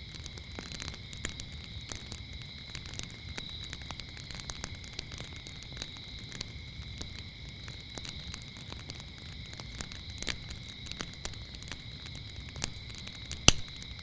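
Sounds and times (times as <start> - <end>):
crickets chirping: 0.0 - 14.0
wood fire crackling and popping: 0.0 - 14.0.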